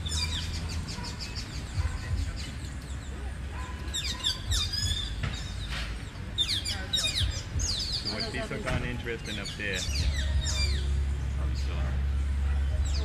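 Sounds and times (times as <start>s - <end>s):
low rumble of wind: 0.0s - 13.0s
small birds chirping: 0.0s - 13.0s.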